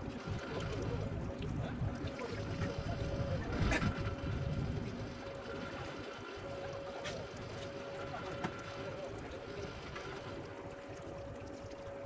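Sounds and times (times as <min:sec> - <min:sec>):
boat engine low rumble: 0:00.0 - 0:12.0
water noise: 0:00.0 - 0:12.0
wind: 0:00.0 - 0:12.0.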